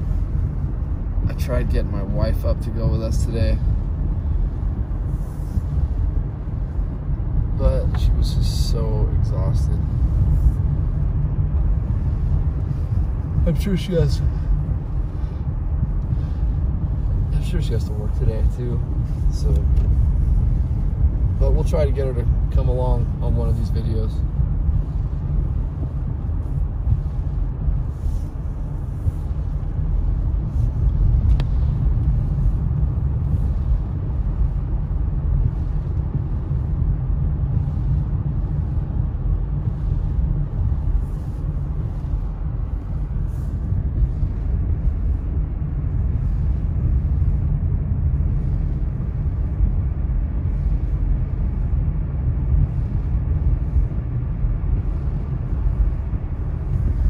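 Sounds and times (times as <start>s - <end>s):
car engine: 0.0s - 57.0s
road and tyre noise: 0.0s - 57.0s.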